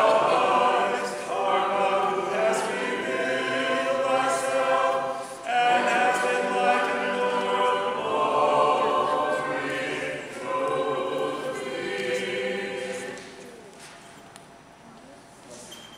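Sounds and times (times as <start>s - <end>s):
choir singing a hymn: 0.0s - 13.6s.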